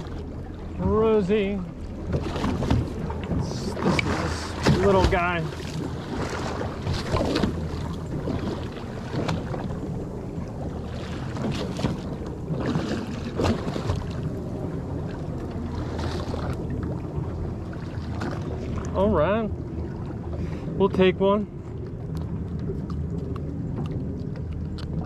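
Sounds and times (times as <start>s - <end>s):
steady low hum: 0.0s - 25.0s
water splashing against hull: 0.0s - 25.0s.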